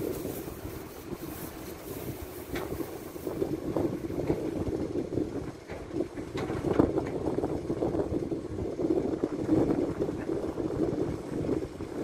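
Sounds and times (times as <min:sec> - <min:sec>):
excavator diesel engine running: 0:00.0 - 0:11.3
wind buffeting microphone: 0:00.0 - 0:12.0.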